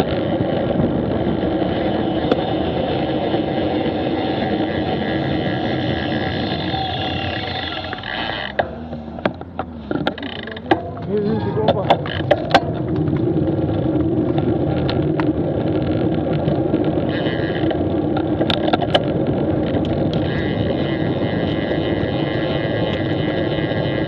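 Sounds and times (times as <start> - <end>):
high whine: 0.0 - 24.0
motorcycle engine hum: 0.0 - 24.0
wind and road noise: 0.0 - 24.0.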